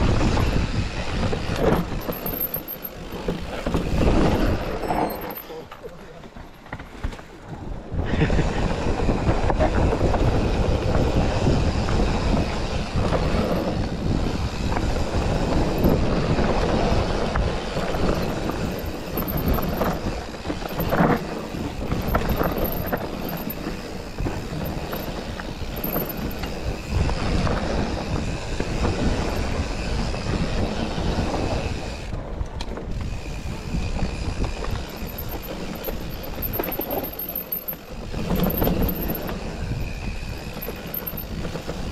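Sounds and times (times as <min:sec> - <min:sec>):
bike rattling over rough trail: 0:00.0 - 0:41.9
tyre and wind rumble: 0:00.0 - 0:41.9.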